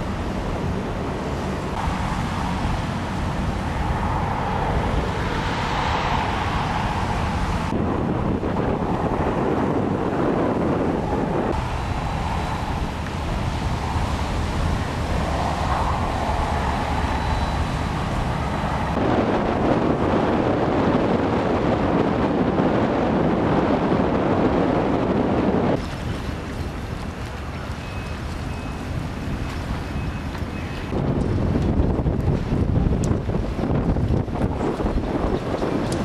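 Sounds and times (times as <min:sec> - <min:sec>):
water rushing around boat: 0:00.0 - 0:36.0
wind buffeting microphone: 0:00.0 - 0:36.0.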